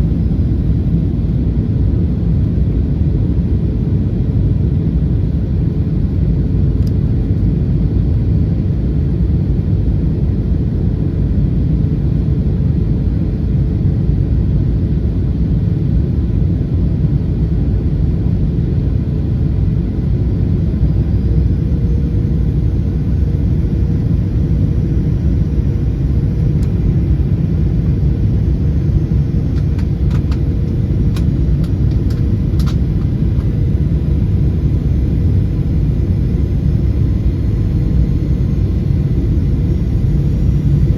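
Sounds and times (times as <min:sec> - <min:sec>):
airliner cabin rumble: 0:00.0 - 0:40.9
faint steady hum: 0:00.0 - 0:40.9.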